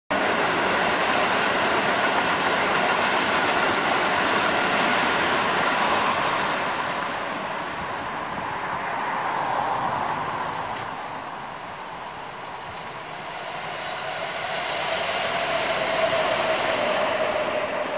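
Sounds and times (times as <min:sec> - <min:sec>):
electric trains running past: 0:00.1 - 0:17.9.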